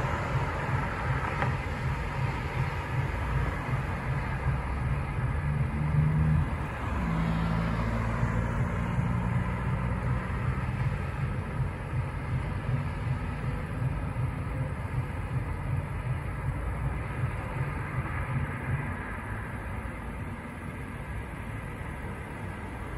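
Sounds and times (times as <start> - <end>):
low engine hum: 0.0 - 22.9
rumble of passing cars: 0.0 - 22.9.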